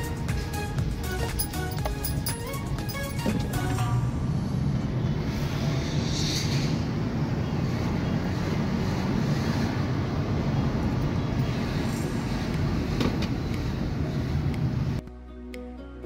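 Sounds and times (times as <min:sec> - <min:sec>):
tyre road noise: 0:00.0 - 0:15.0.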